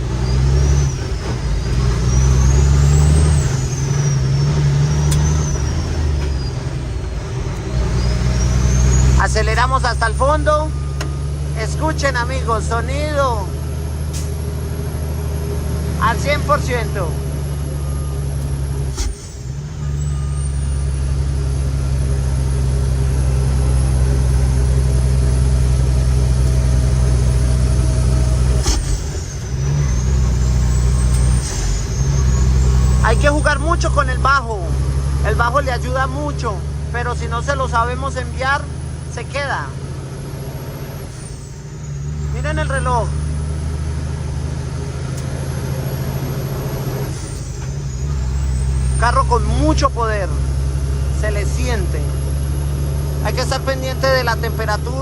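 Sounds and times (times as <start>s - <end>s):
diesel truck engine pulling hard: 0.0s - 55.0s.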